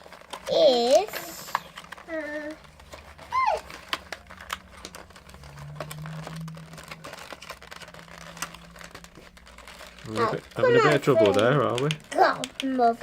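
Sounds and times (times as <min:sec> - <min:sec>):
plastic packaging clicking: 0:00.0 - 0:13.0.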